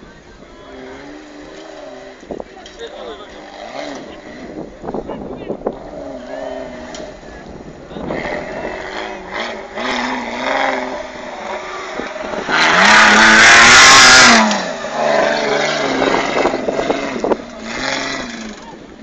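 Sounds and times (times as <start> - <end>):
off-road engine revving hard: 0.0 - 19.0.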